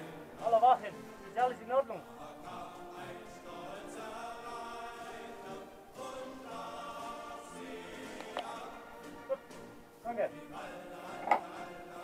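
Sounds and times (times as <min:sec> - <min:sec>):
choir singing long held notes: 0:00.0 - 0:01.4, 0:02.0 - 0:12.0.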